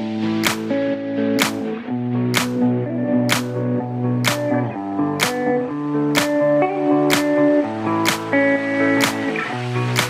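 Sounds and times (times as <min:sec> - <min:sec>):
guitar chords: 0:00.0 - 0:10.0.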